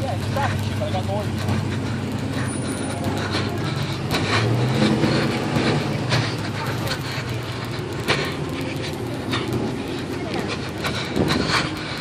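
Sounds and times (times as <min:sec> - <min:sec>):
vehicle engines: 0:00.0 - 0:12.0.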